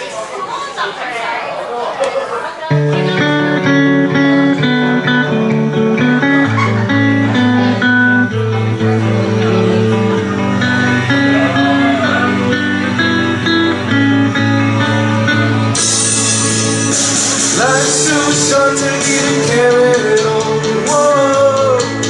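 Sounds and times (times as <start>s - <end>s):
guitar chords: 2.7s - 22.0s.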